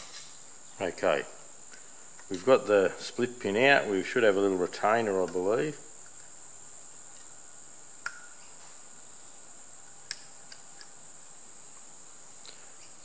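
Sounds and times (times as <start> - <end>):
high-pitched background whine: 0.0 - 13.0.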